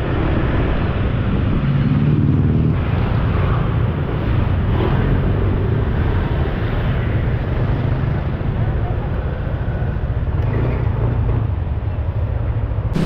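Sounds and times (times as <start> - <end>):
vehicle engine and road noise: 0.0 - 13.0
wind rumble on microphone: 0.0 - 13.0.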